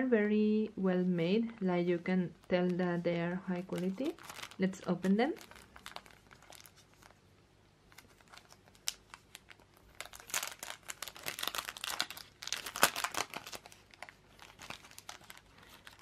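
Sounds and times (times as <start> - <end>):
plastic packet crinkling: 2.4 - 7.2, 7.9 - 16.0.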